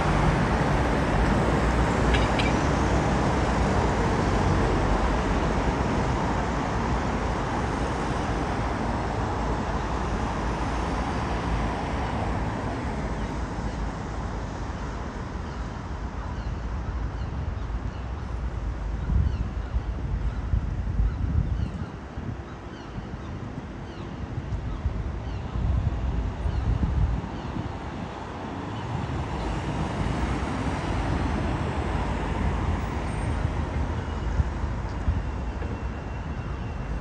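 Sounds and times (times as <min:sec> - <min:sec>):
traffic hum: 0:00.0 - 0:37.0
vehicle rumble and tyre noise: 0:00.0 - 0:37.0.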